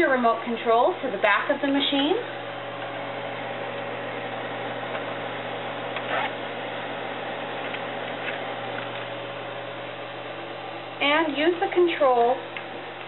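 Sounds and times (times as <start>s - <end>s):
projector cooling fan whirring: 0.0s - 13.0s.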